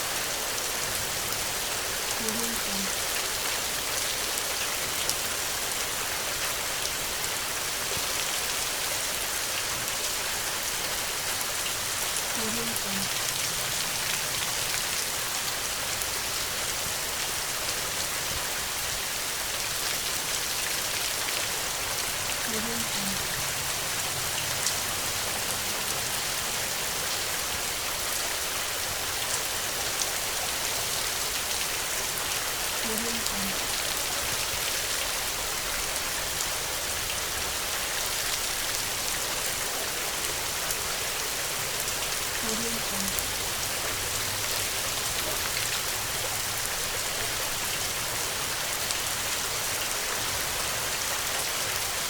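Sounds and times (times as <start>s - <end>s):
raindrops pattering: 0.0s - 52.0s.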